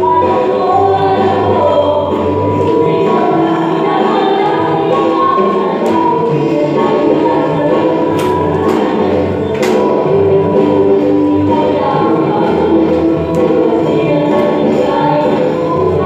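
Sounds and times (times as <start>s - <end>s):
group singing with band: 0.0s - 16.0s.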